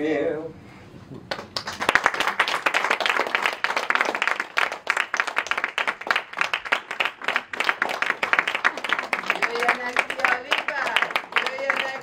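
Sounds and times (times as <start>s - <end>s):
audience applauding: 1.3s - 12.0s.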